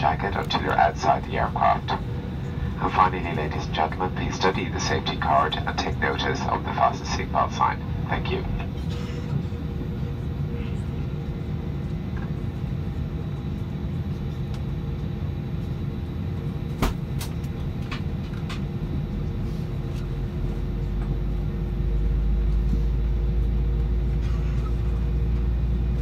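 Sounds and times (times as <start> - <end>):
aircraft cabin rumble: 0.0 - 26.0.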